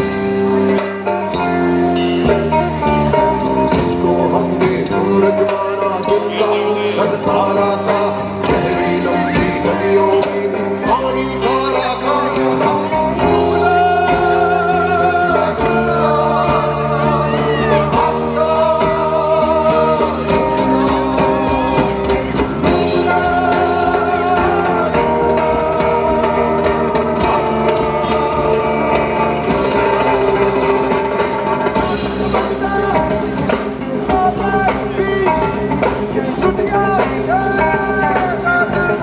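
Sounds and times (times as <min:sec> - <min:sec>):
live rock band: 0:00.0 - 0:39.0
person singing: 0:00.0 - 0:39.0.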